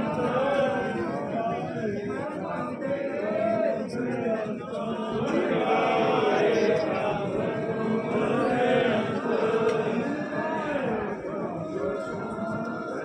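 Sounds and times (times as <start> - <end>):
congregation chanting in unison: 0.0 - 13.0.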